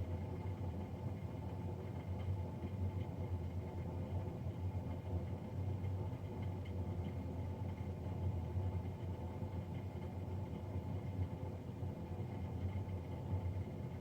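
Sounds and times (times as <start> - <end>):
boiler fan droning with whine: 0.0 - 14.0.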